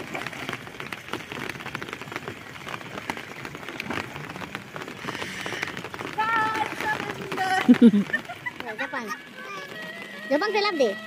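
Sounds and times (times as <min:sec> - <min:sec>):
rain pattering on pond water: 0:00.0 - 0:11.0.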